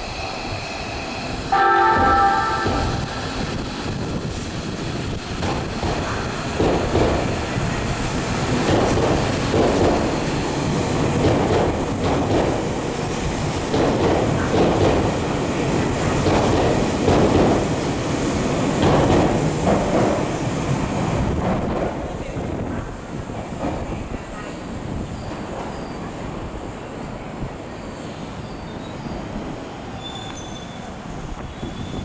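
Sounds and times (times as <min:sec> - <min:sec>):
electric train rumbling: 0:00.0 - 0:32.0.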